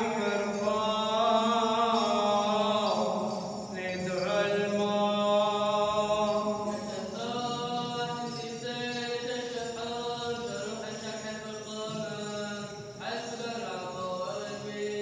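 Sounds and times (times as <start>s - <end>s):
slow liturgical chant: 0.0s - 15.0s.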